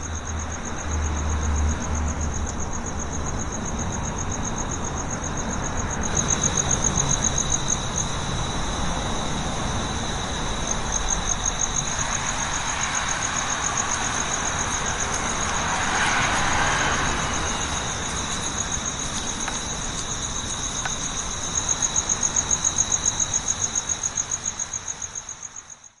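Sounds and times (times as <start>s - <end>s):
continuous noisy background: 0.0s - 25.7s
insects trilling: 0.0s - 26.0s.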